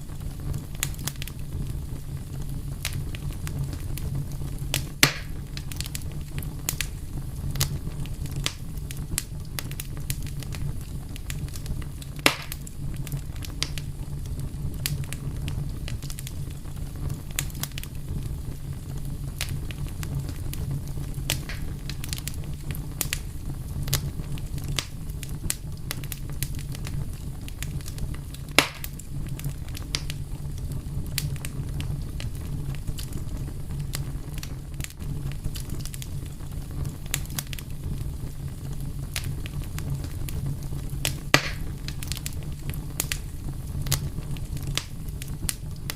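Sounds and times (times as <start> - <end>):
fire crackling: 0.0 - 45.9
sharp fire pops: 0.0 - 45.9.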